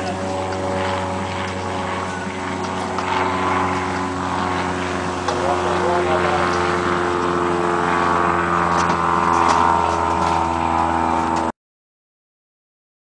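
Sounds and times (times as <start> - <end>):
motor humming: 0.0 - 11.5.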